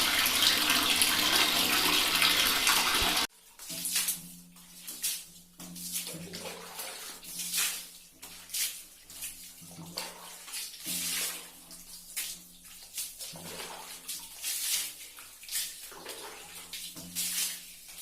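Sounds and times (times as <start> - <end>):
water splashing and pouring: 0.0 - 18.0.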